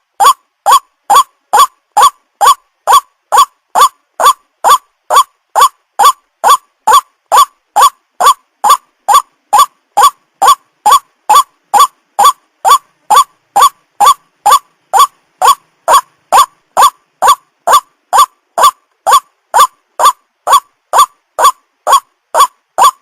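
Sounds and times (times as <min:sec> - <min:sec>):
bird calling repeated note: 0:00.2 - 0:23.0.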